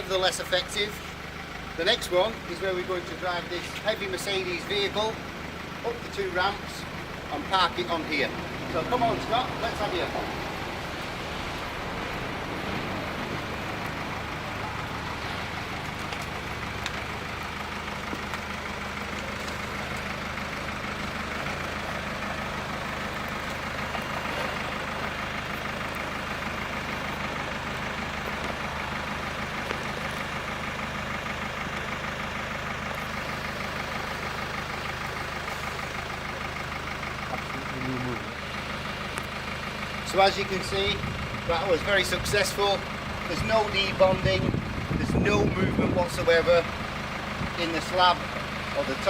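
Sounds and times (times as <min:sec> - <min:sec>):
car engine at low revs: 0:00.0 - 0:49.0.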